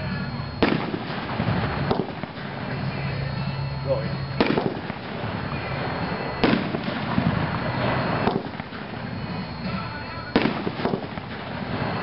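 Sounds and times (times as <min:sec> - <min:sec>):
firework bangs: 0:00.0 - 0:03.6, 0:04.3 - 0:12.0
dense rumble of firework noise: 0:00.0 - 0:12.0.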